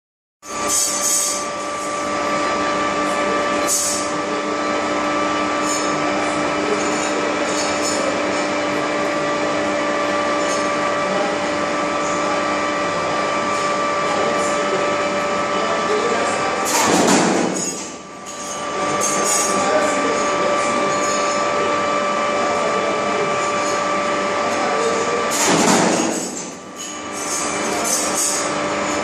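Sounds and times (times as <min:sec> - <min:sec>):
machine humming and whining: 0:00.4 - 0:29.0.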